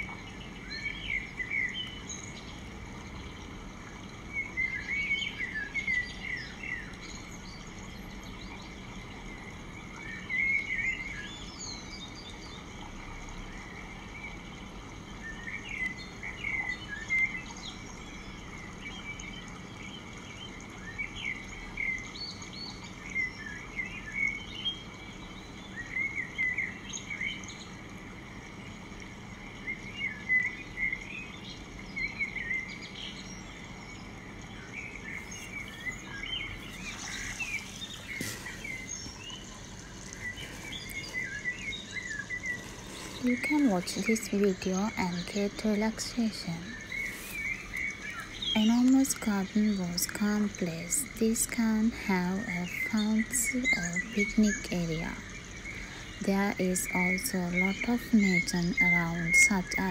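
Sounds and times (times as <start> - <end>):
low background hum: 0.0 - 59.9
small birds chirping: 0.0 - 59.9.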